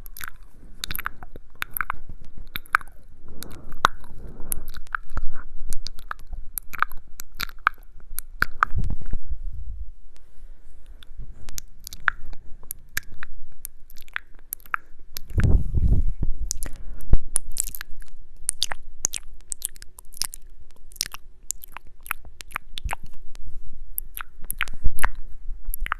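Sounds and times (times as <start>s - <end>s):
close-miked chewing and crunching: 0.0s - 9.2s, 10.2s - 15.6s, 16.4s - 25.9s.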